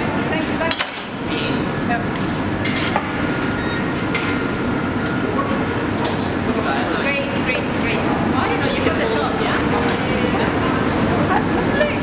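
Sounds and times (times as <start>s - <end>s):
roaring furnaces and fans: 0.0s - 12.0s.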